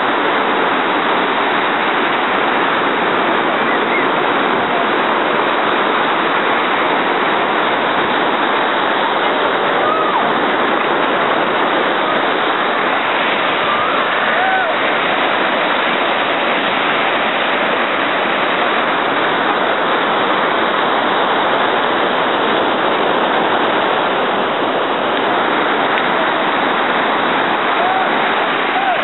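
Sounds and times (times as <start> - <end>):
ocean surf breaking: 0.0 - 29.0.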